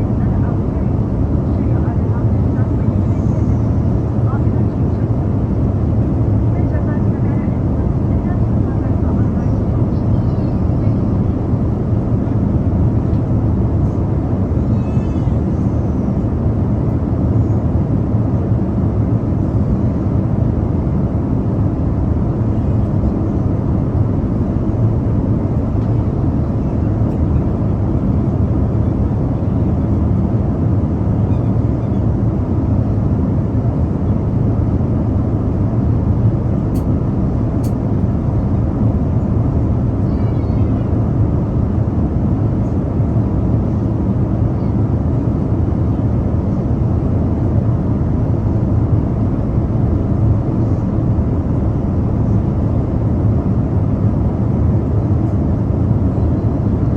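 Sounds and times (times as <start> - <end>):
airliner cabin drone: 0.0 - 56.9.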